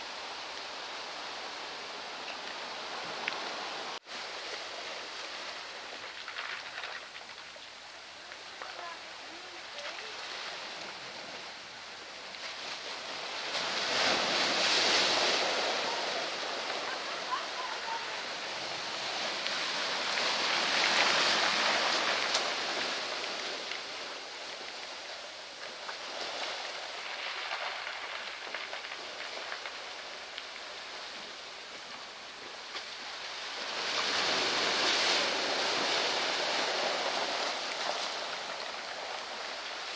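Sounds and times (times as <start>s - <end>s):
surf rolling pebbles: 0.0s - 39.9s.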